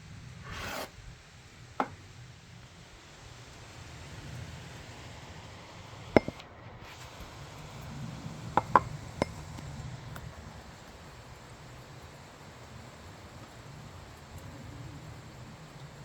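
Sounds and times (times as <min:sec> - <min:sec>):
light rain hiss: 0:00.0 - 0:16.0.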